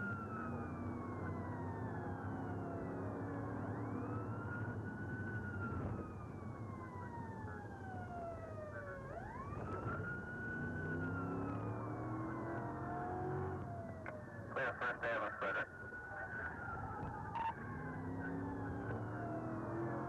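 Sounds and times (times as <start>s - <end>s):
police siren wailing: 0.0s - 20.0s
road noise: 0.0s - 20.0s
vehicle engine hum: 0.0s - 20.0s.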